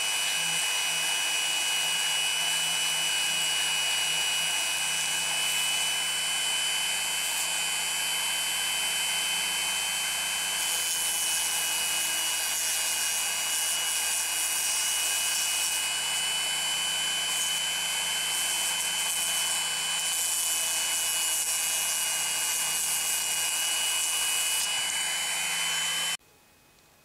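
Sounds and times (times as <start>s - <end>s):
rotary tool high whine: 0.0s - 26.2s.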